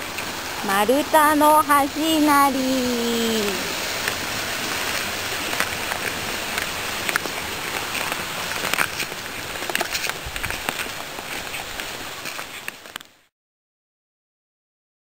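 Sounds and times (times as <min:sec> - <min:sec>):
river rushing: 0:00.0 - 0:13.1.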